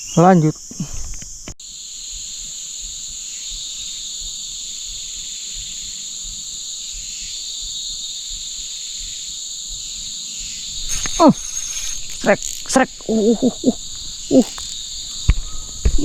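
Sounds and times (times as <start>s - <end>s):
jungle insects shrilling: 1.6s - 16.0s.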